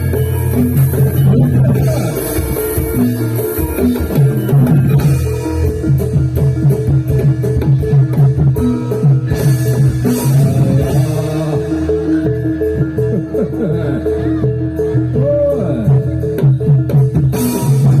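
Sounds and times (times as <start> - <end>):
hand drums playing busy strokes: 0.0 - 18.0.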